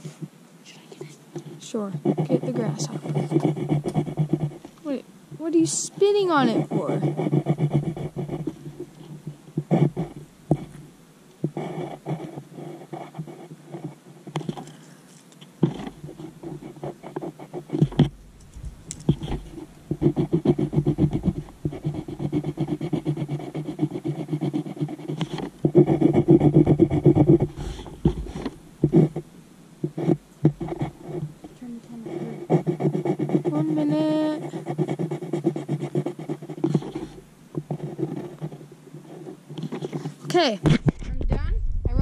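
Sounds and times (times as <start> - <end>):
pencil scribbling on paper: 1.0 - 10.8, 11.4 - 14.6, 15.6 - 18.2, 19.0 - 29.2, 29.8 - 40.5.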